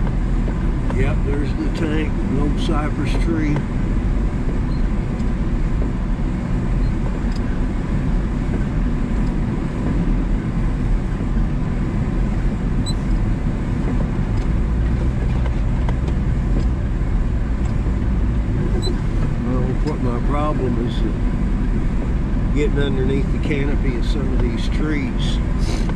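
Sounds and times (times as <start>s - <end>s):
truck engine low rumble: 0.0s - 25.9s.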